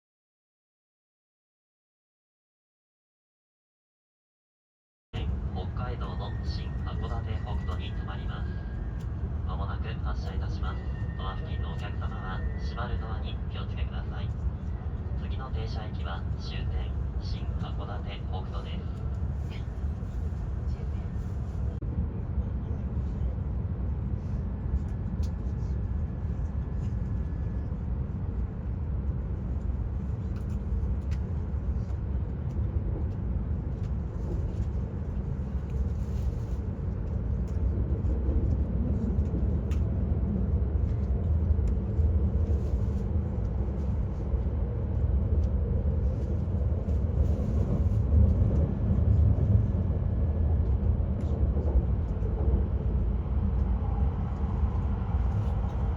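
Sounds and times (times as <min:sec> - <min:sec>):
train cabin low rumble: 0:05.2 - 0:55.9.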